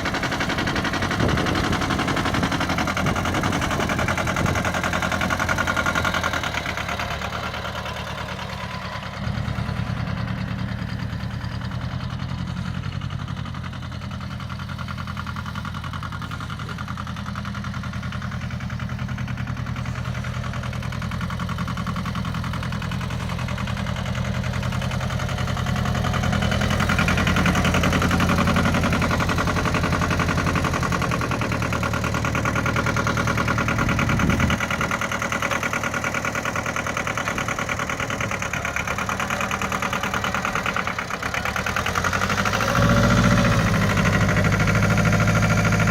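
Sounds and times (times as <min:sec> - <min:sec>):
tractor diesel engine idling: 0:00.0 - 0:45.9.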